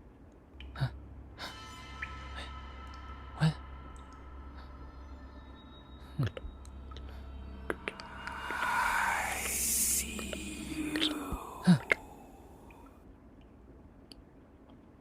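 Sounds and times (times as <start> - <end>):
low ambient drone: 0.4 - 13.0.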